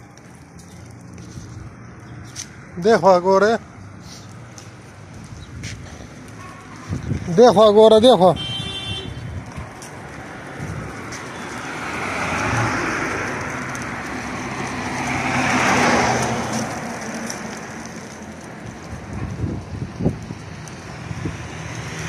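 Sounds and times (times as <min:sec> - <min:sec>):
cars passing by: 0:00.0 - 0:22.0.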